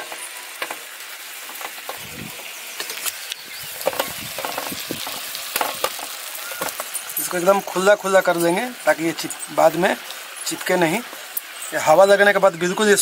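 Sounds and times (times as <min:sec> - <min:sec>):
syrup sizzling in a pan: 0:00.0 - 0:13.0.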